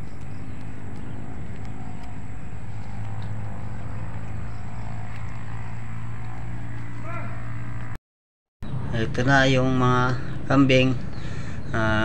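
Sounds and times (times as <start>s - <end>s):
steady low engine drone: 0.0s - 8.0s, 8.6s - 12.0s.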